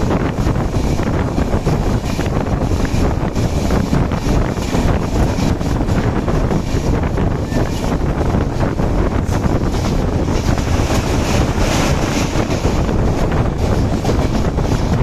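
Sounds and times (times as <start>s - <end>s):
moving train rumble: 0.0s - 15.0s
wind rushing over microphone: 0.0s - 15.0s.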